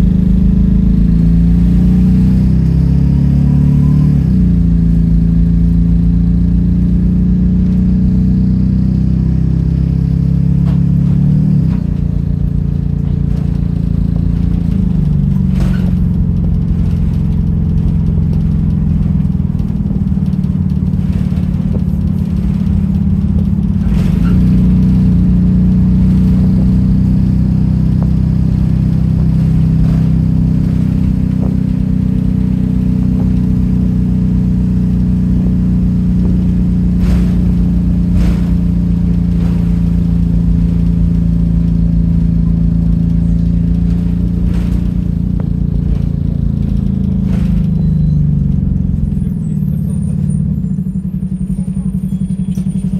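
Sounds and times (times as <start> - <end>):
bus engine droning: 0.0 - 52.9.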